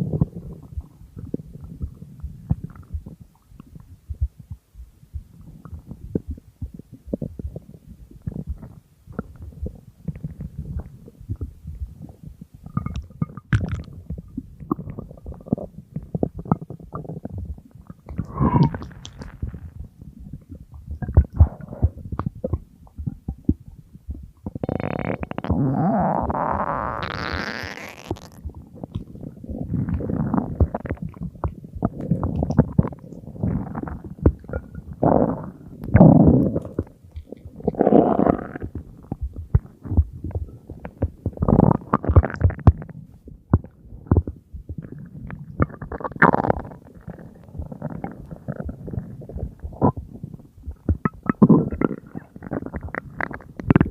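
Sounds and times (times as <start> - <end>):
stomach growling: 0.0 - 4.6, 5.2 - 53.9.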